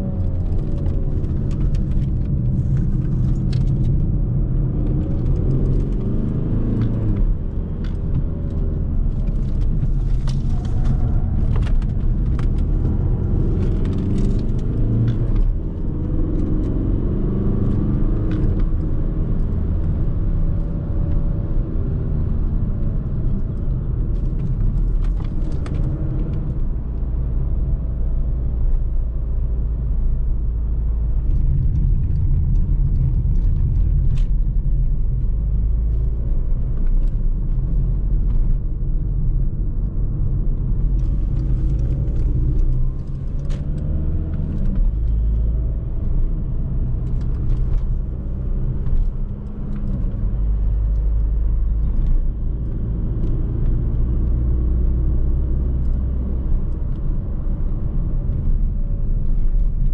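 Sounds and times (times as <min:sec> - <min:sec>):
diesel car engine running: 0:00.0 - 0:59.9
tyre and road noise: 0:00.0 - 0:59.9.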